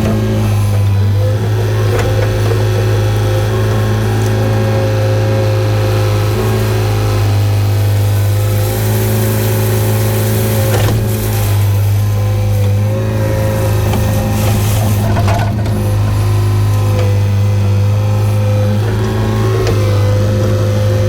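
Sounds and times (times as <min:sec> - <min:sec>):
excavator diesel engine running: 0:00.0 - 0:21.0
rough scraping: 0:00.0 - 0:21.0.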